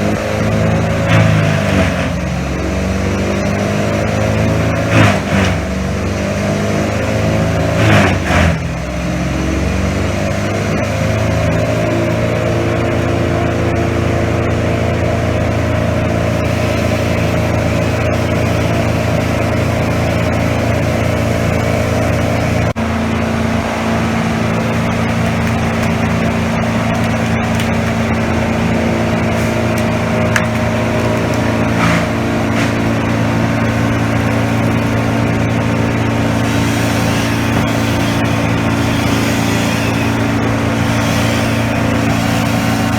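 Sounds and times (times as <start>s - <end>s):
large engine revving: 0.0s - 42.9s.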